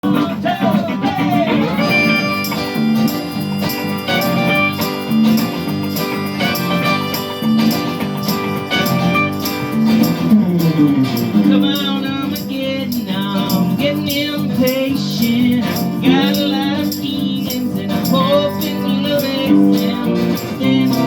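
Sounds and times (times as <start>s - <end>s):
live band playing guitar-led music: 0.0s - 21.0s
sliding guitar notes: 0.0s - 21.0s.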